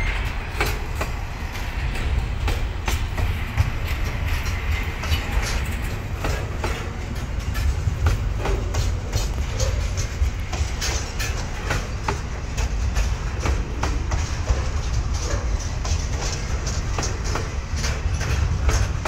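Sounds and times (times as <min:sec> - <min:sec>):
train rumble: 0:00.0 - 0:19.0
wheels clicking over rail joints: 0:00.0 - 0:19.0.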